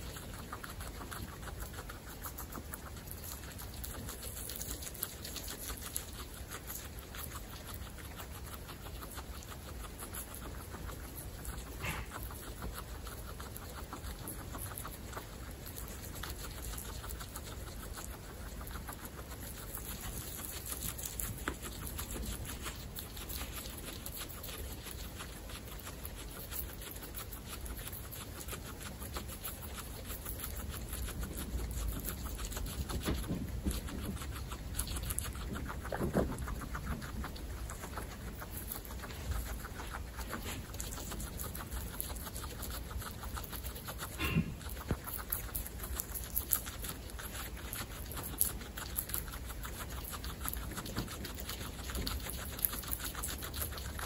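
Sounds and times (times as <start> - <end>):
guinea pigs chewing grass: 0.0 - 54.0.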